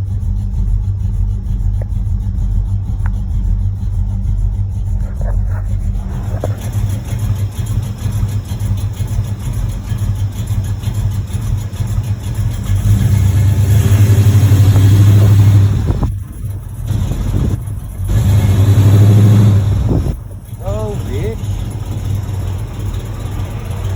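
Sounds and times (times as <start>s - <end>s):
car engine running: 0.0s - 23.9s.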